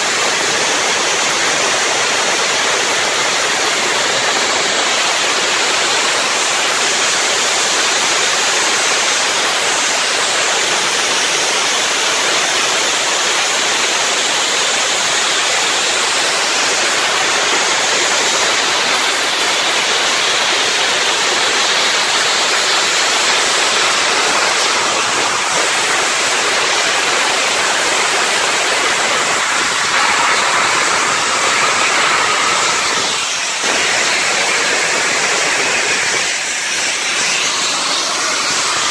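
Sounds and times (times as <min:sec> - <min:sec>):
steam locomotive hissing steam: 0:00.0 - 0:38.9.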